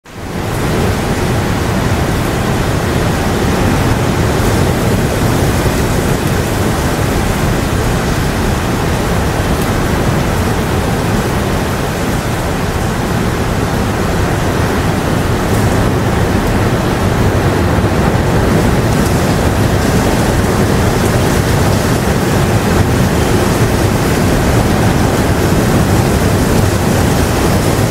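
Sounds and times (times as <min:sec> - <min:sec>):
steady rain: 0:00.0 - 0:27.9.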